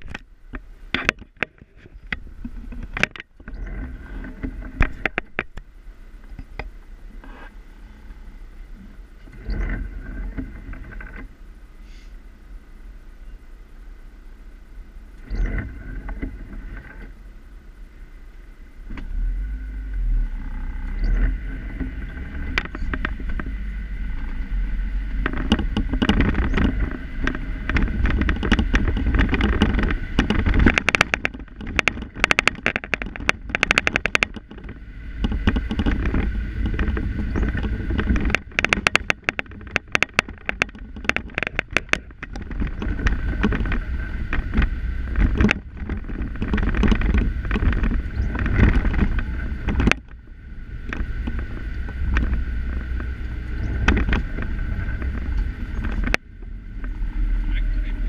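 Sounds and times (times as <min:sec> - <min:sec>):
loose object rattling in car: 0:00.0 - 0:11.6, 0:15.0 - 0:18.1, 0:18.7 - 0:58.0
car engine and tyre rumble: 0:00.0 - 0:58.0.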